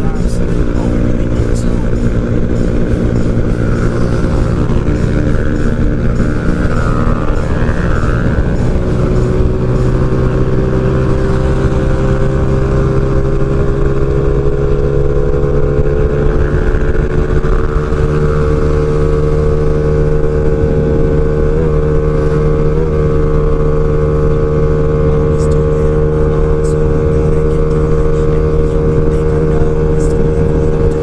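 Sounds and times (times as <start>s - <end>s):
two-stroke scooter engine at high speed: 0.0s - 31.0s.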